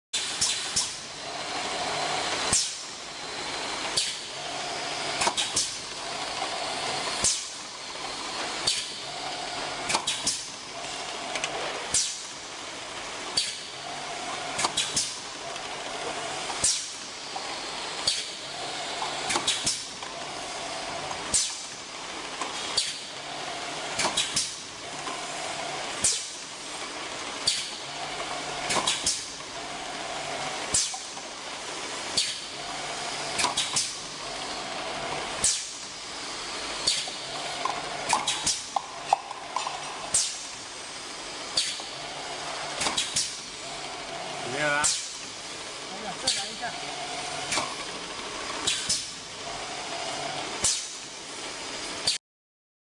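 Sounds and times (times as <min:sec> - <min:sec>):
steady hiss: 0:00.2 - 0:52.2
machine hum: 0:00.3 - 0:24.0, 0:24.6 - 0:52.0.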